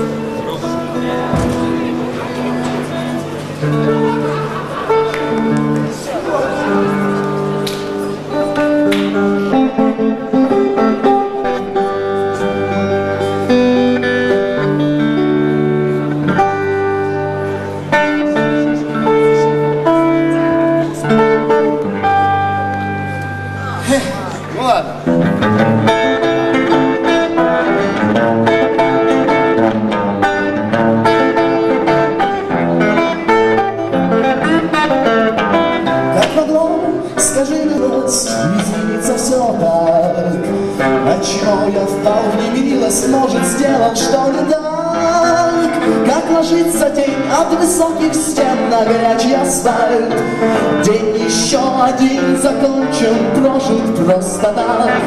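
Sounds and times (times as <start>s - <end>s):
electric guitar: 0.0s - 55.0s
live rock band music: 0.0s - 55.0s.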